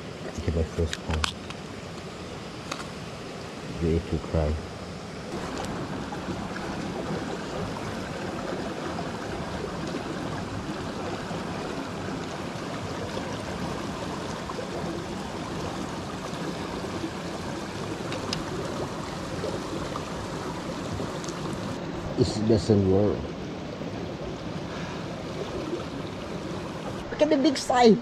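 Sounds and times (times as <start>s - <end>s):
river water rushing: 4.8s - 28.0s.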